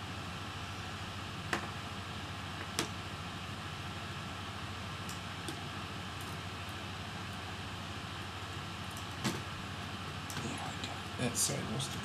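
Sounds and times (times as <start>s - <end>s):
steady hiss and hum: 0.0s - 12.0s.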